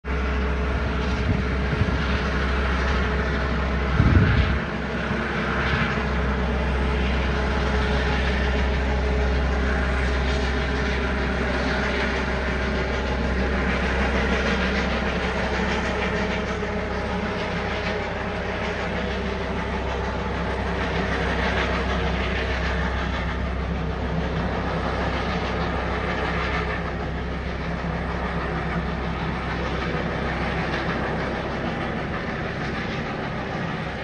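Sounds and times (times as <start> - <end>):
helicopter droning in flight: 0.0 - 34.0.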